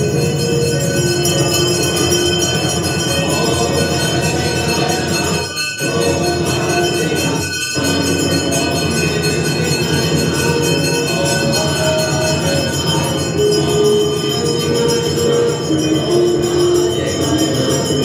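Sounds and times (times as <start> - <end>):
bells and hand cymbals ringing: 0.0 - 18.0.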